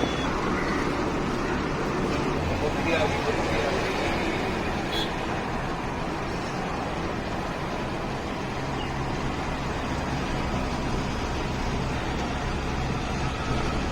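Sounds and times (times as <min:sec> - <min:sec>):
road noise: 0:00.0 - 0:13.9
truck engine running: 0:00.0 - 0:13.9.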